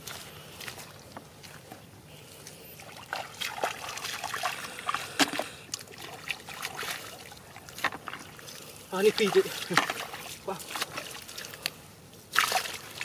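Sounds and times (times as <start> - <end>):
muddy water splashing and trickling: 0.0 - 13.0.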